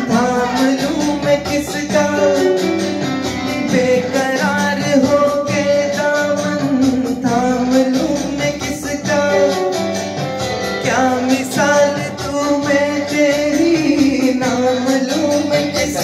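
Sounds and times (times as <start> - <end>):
instrumental backing music: 0.0 - 16.0
man singing: 0.0 - 16.0.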